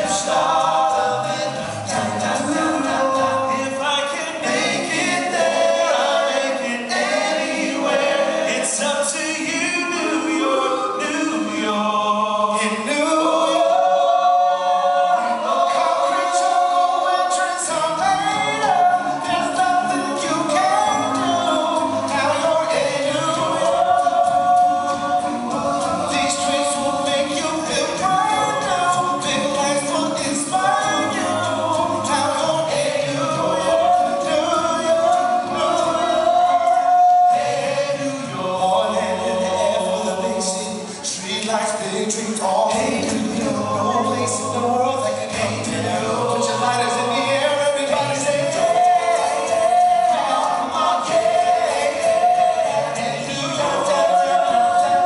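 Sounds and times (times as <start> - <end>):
male group singing a cappella: 0.0 - 55.0.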